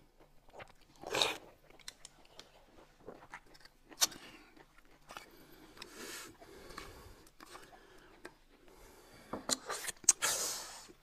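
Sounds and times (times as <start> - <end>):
people chewing food: 0.0 - 11.0.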